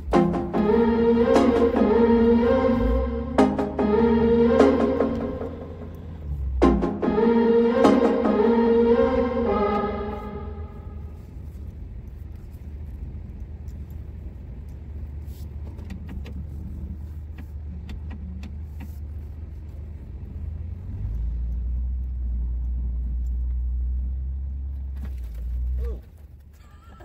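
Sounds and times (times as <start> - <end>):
truck engine rumbling: 0.0 - 26.4.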